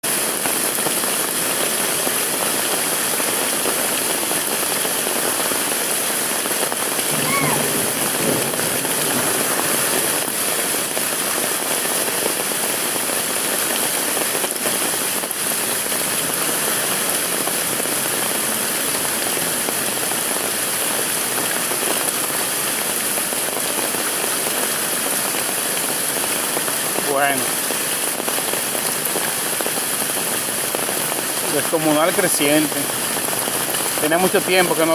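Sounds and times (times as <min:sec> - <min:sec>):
river rushing: 0:00.1 - 0:34.9.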